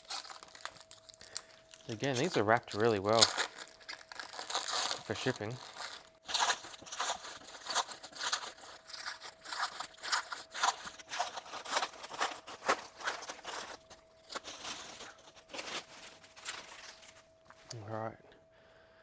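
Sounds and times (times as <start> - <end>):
plastic wrap crinkling and tearing: 0.0 - 17.3.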